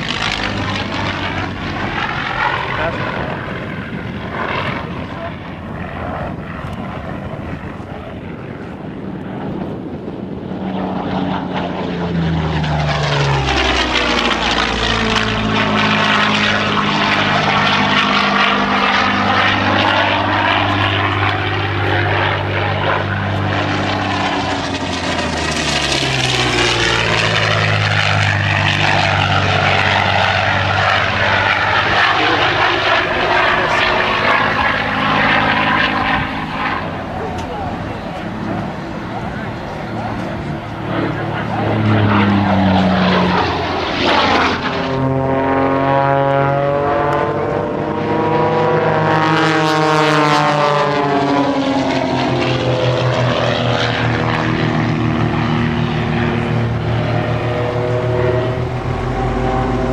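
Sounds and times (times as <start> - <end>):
propeller airplane engines droning: 0.0 - 59.9.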